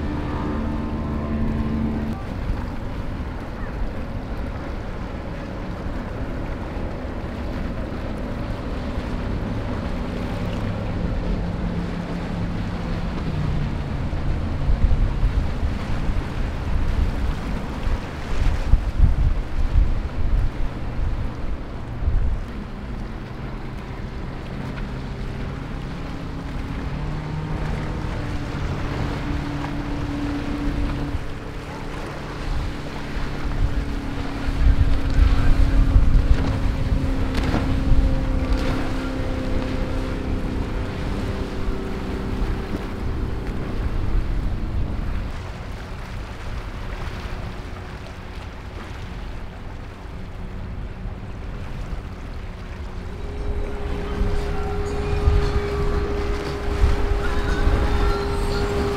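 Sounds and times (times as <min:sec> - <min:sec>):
outboard motor running: 0:00.0 - 0:58.9
rush of hull spray: 0:00.0 - 0:58.9.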